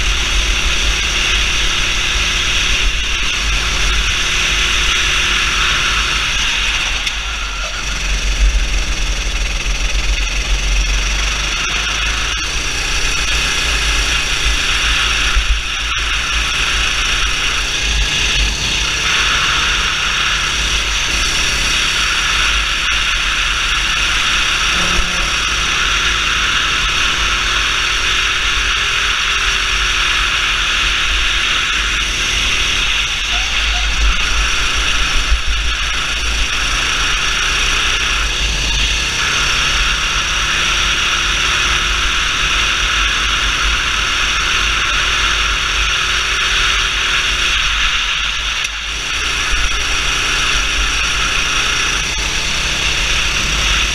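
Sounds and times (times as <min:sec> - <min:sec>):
go-kart engine: 0:00.0 - 0:53.9.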